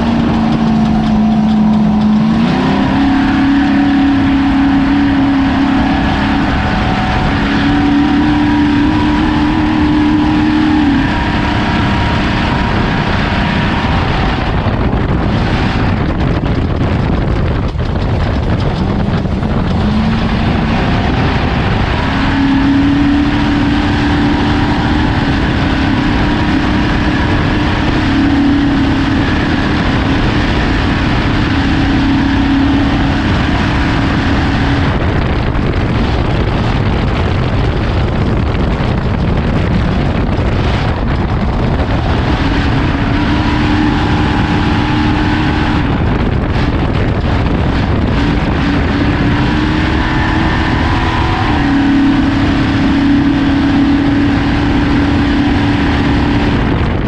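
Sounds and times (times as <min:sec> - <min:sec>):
race vehicle engine running: 0:00.0 - 0:57.0.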